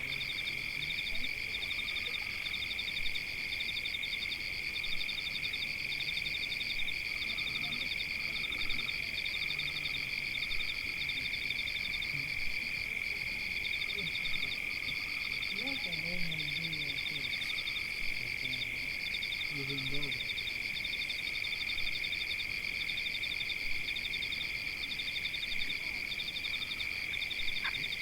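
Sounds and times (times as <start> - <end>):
rapid pulsing frog trills: 0.0 - 28.0.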